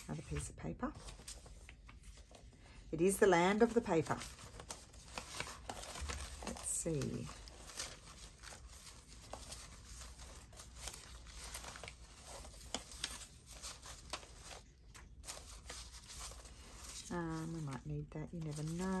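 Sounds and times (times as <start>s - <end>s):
paper rustling: 0.0s - 19.0s.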